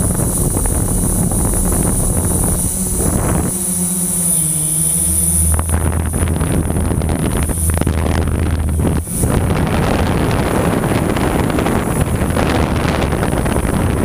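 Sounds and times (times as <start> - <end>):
deeper hum: 0.0 - 14.0
drone motors and propellers whining: 0.0 - 14.0
wind buffeting microphone: 0.0 - 14.0.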